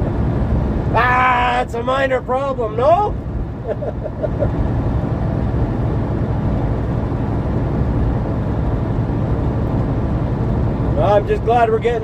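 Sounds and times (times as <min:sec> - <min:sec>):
engine and road noise in cab: 0:00.0 - 0:12.0.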